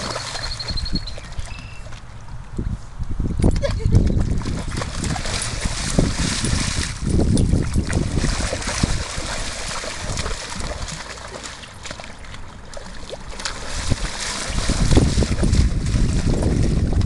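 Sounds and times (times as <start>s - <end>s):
splashing through shallow water: 0.0s - 2.4s, 3.6s - 17.0s
wind rumble on microphone: 0.0s - 11.0s, 13.2s - 17.0s.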